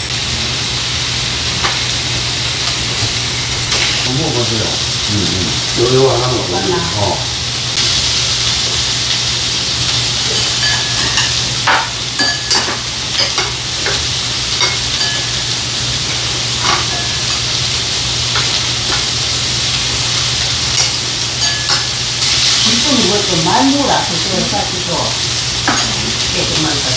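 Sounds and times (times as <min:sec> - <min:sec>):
food sizzling in frying pan: 0:00.0 - 0:26.9.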